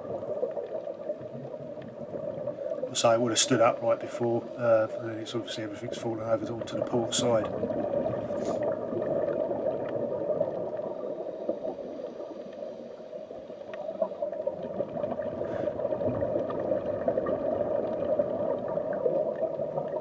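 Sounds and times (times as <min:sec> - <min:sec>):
exhaled bubbles: 0:00.0 - 0:20.0
underwater regulator rushing and gurgling: 0:00.0 - 0:20.0.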